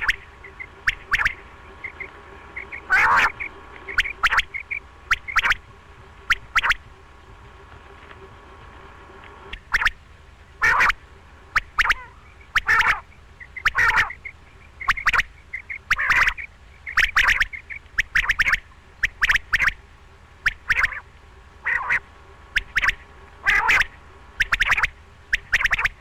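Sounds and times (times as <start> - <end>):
quail calling: 0.0 - 7.0, 9.5 - 10.0, 10.6 - 19.8, 20.4 - 26.0.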